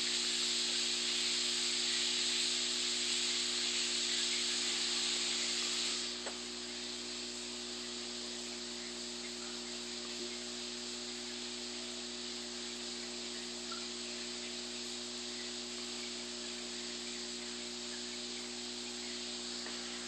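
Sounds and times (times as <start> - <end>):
air pump humming: 0.0 - 20.0.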